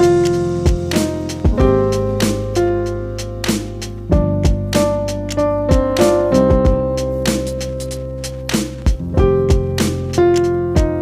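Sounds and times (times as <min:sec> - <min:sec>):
piano-led instrumental music: 0:00.0 - 0:11.0.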